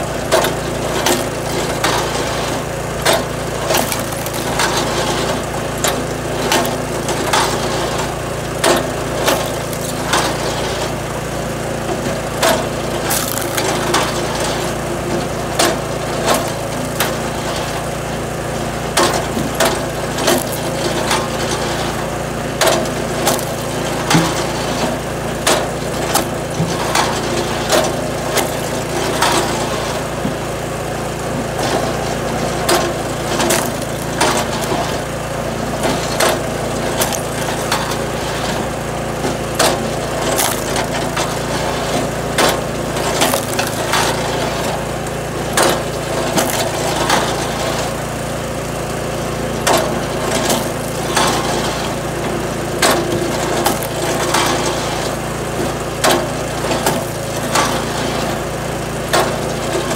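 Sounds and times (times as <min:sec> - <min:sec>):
log splitter motor humming: 0:00.0 - 0:59.9
wood cracking and clattering: 0:01.0 - 0:10.9, 0:12.2 - 0:17.7, 0:18.9 - 0:30.4, 0:31.3 - 0:48.0, 0:49.6 - 0:58.0.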